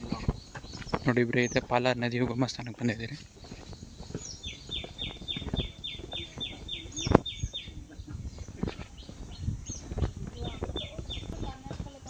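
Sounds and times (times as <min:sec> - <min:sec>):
footsteps on stone steps: 0:00.0 - 0:12.0.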